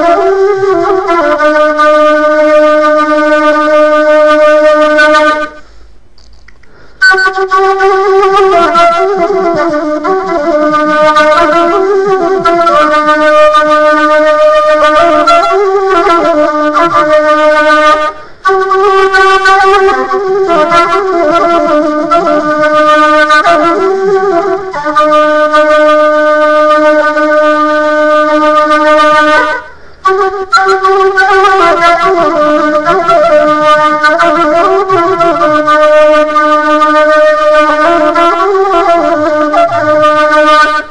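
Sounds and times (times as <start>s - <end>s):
reedy wind instrument melody: 0.0s - 5.7s, 6.9s - 40.9s.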